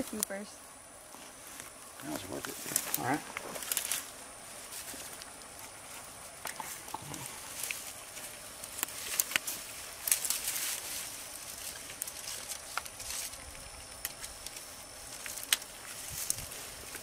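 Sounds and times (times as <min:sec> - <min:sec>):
rustling: 0:01.0 - 0:17.0.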